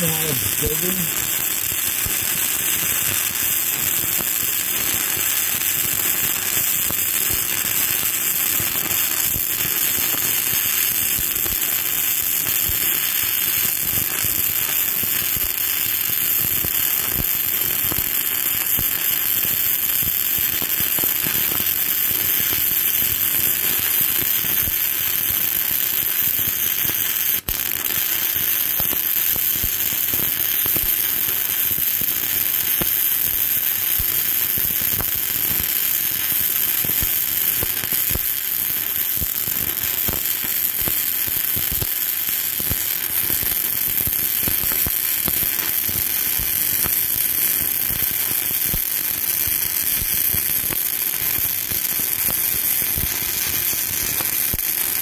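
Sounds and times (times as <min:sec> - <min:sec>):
welding arc crackling: 0:00.0 - 0:55.0.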